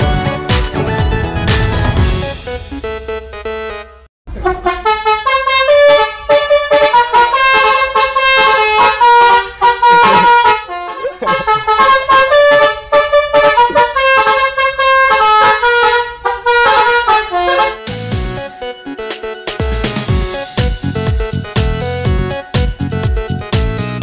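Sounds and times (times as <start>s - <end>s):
musical bus horn tune: 0.0s - 23.9s.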